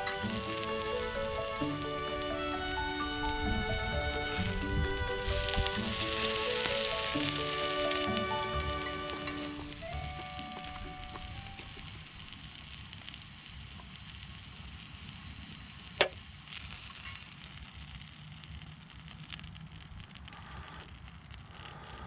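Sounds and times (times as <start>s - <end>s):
campfire rumble and crackling: 0.0s - 22.0s.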